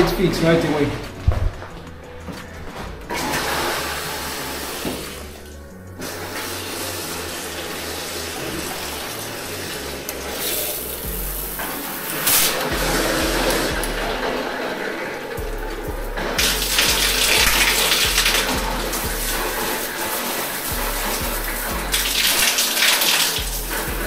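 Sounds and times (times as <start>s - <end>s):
water running from a tap: 3.1s - 24.0s.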